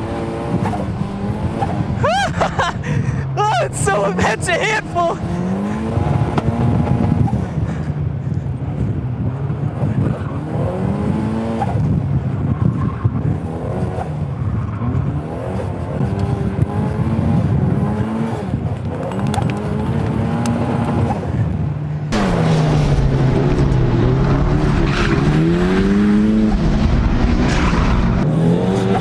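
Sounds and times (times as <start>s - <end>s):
car engine revving: 0.0s - 7.6s, 8.7s - 21.4s, 22.1s - 29.0s.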